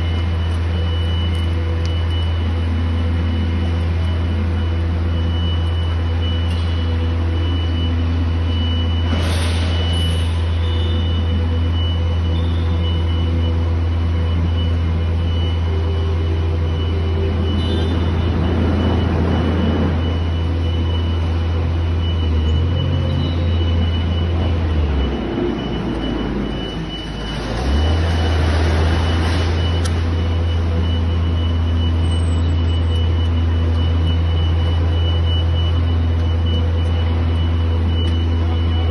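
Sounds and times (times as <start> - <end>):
electric truck low hum: 0.0 - 38.9.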